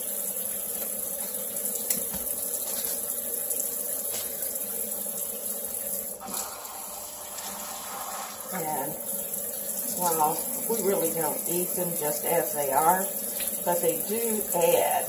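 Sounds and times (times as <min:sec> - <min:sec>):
faucet running into metal sink: 0:00.0 - 0:15.0.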